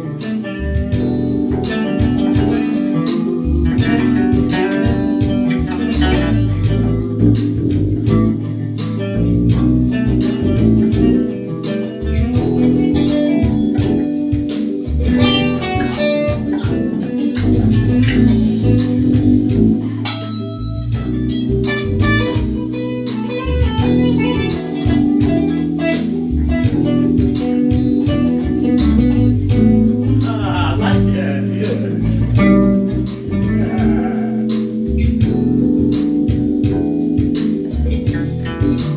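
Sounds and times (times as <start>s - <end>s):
bass guitar plucked notes: 0.0s - 38.9s
higher plucked-string notes: 0.0s - 38.9s.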